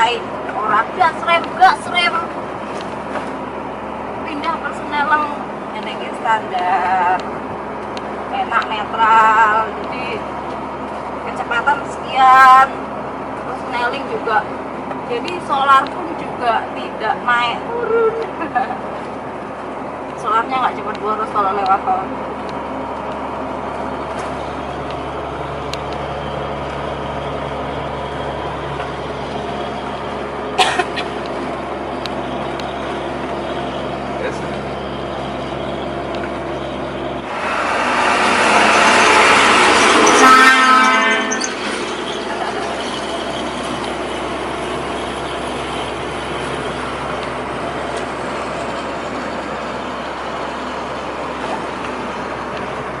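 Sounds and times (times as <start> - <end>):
truck engine and road hum: 0.0 - 53.0.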